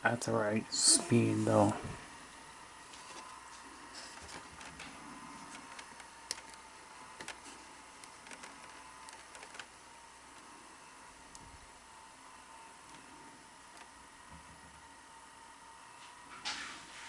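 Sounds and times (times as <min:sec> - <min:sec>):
faint steady tone and hiss: 0:00.0 - 0:17.0.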